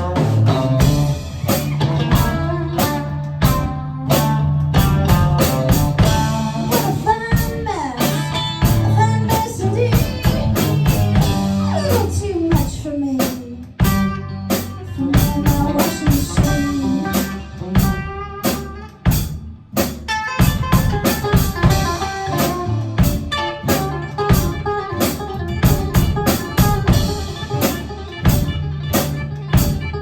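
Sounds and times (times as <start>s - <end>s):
drum kit beat: 0.0s - 30.0s
sliding guitar notes: 0.0s - 30.0s.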